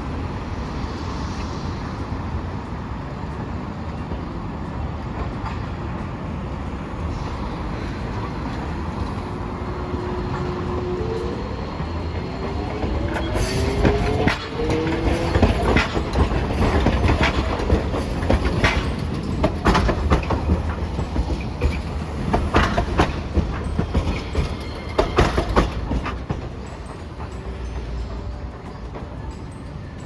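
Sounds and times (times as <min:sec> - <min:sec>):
streetcar motor whine: 0:00.0 - 0:30.0
wheels clacking over rail joints: 0:00.0 - 0:30.0
wheels rumbling on rail: 0:00.0 - 0:30.0.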